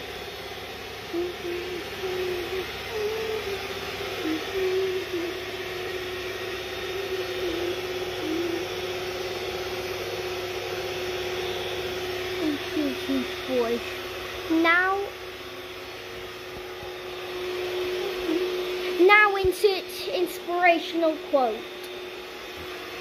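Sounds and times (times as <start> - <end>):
electric mixer motor whirring: 0.0 - 23.0
wavering hum: 0.0 - 23.0.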